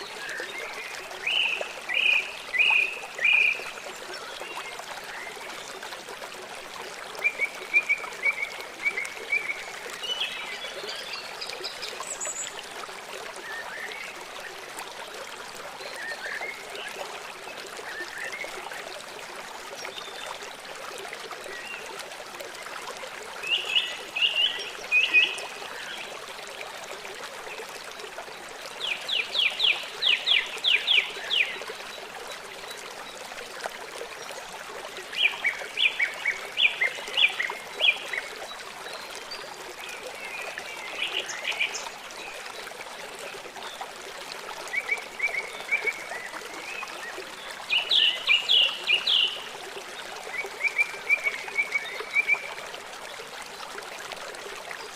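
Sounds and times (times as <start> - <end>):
running water trickling: 0.0 - 54.9.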